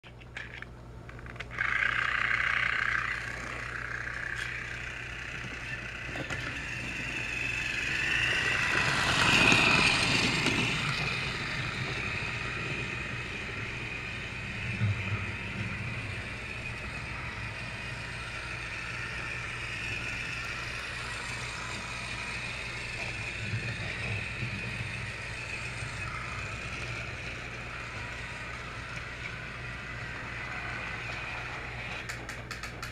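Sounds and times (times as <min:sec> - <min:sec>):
toy train motor whining: 0:00.4 - 0:32.9.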